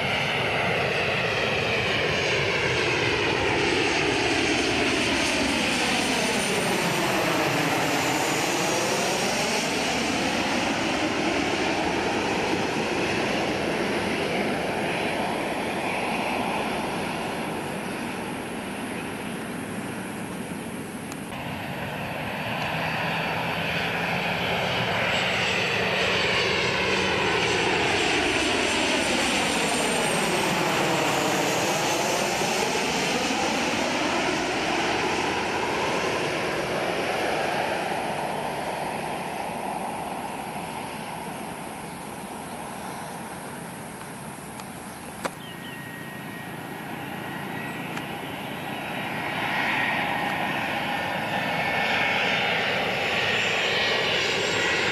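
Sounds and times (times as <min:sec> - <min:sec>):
jet airliner passing overhead: 0:00.0 - 0:54.9.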